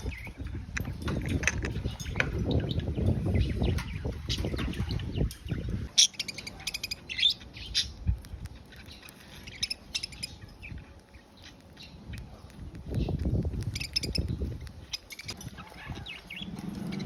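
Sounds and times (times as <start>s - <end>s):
budgerigars chirping: 1.8s - 8.0s, 8.6s - 12.4s, 13.0s - 17.0s.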